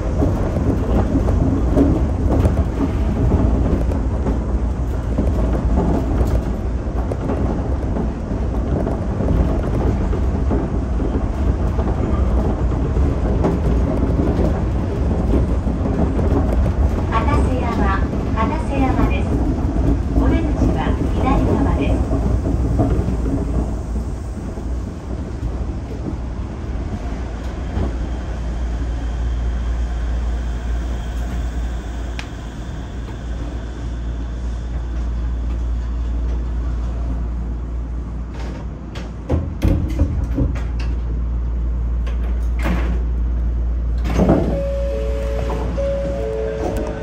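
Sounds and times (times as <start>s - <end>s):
monorail car humming: 0.0s - 47.0s.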